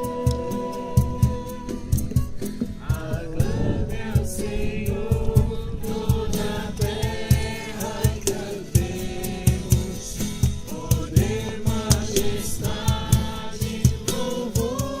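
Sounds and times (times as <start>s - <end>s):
group singing worship song: 0.0s - 15.0s
music accompaniment with steady beat: 0.0s - 15.0s.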